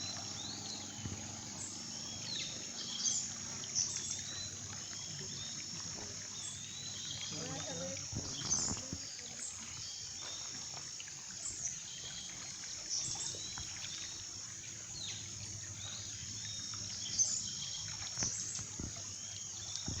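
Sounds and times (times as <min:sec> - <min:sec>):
birds chirping: 0:00.0 - 0:10.6, 0:11.4 - 0:20.0
flowing river water: 0:00.0 - 0:20.0
insects droning: 0:00.0 - 0:20.0.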